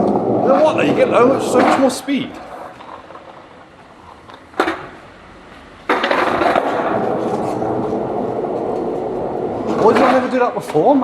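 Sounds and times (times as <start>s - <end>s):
skateboard clack: 0.0s - 11.0s
skateboard wheels rumbling: 0.0s - 11.0s.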